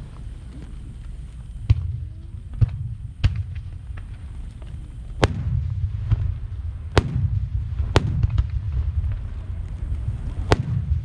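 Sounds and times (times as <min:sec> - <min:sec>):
faint fireworks cracks: 0:00.0 - 0:11.0
low rumble of booms: 0:00.0 - 0:11.0
fireworks bangs: 0:01.6 - 0:11.0.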